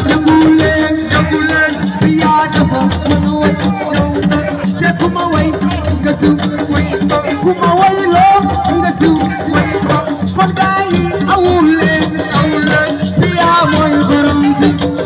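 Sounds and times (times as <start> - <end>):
live band music: 0.0 - 15.0
shaken rattle and drums: 0.0 - 15.0.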